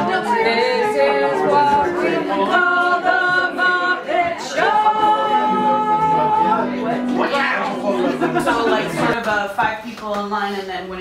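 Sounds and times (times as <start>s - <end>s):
voices singing unaccompanied: 0.0s - 9.5s.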